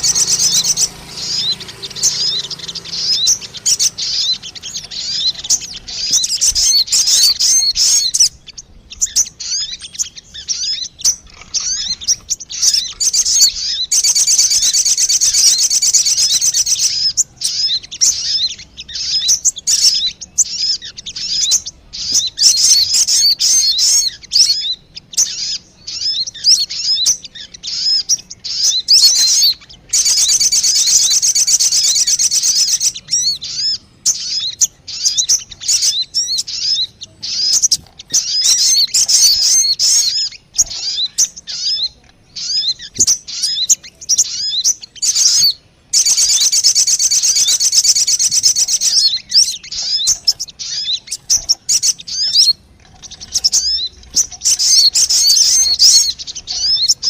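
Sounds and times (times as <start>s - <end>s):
bird chirps and trills: 0.0s - 57.0s.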